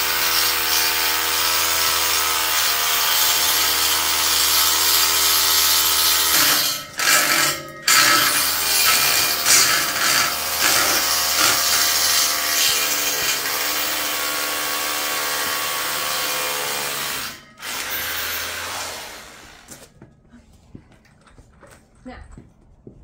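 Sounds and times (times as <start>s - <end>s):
cordless drill drilling concrete: 0.0s - 19.9s.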